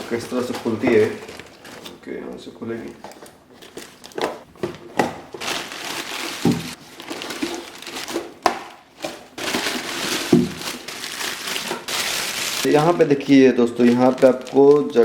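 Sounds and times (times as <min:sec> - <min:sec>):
cardboard rustling and crinkling: 0:00.0 - 0:15.0.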